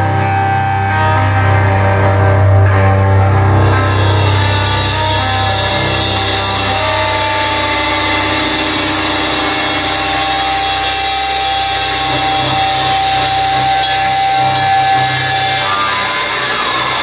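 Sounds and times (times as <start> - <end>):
rock band playing distorted music: 0.0 - 17.0
steady high note: 2.3 - 17.0.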